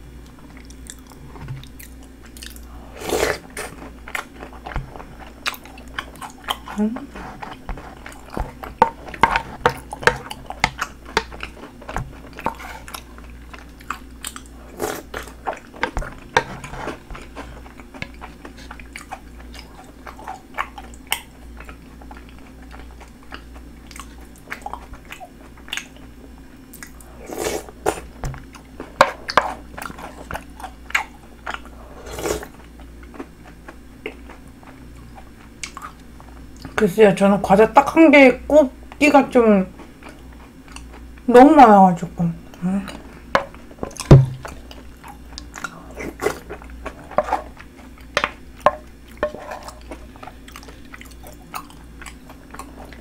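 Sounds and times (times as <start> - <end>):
chewing and crunching: 0.1 - 36.8, 39.7 - 41.3, 42.4 - 53.0.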